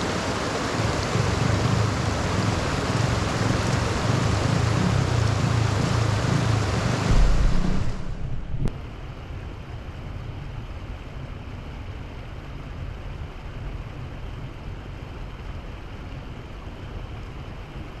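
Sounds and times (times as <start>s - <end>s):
heavy rushing water: 0.0s - 18.0s.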